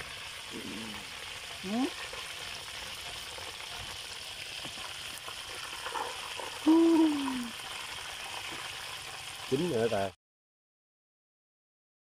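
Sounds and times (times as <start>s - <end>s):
hot oil sizzling in a wok: 0.0s - 10.2s.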